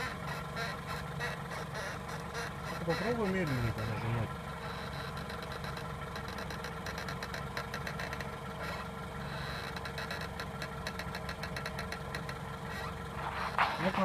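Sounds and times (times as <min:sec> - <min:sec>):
brake caliper creaking clicks: 0:00.0 - 0:14.0
car engine idling: 0:00.0 - 0:14.0.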